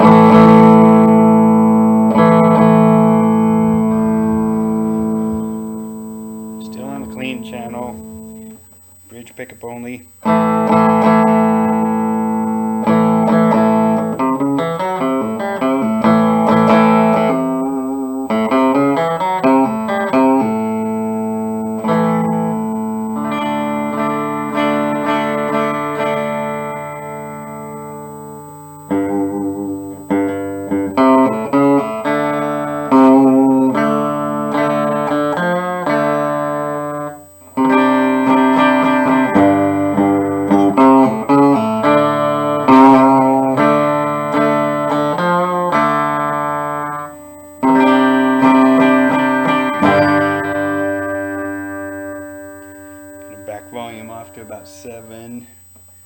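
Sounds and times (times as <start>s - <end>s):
electric guitar chords strummed: 0.0s - 56.0s.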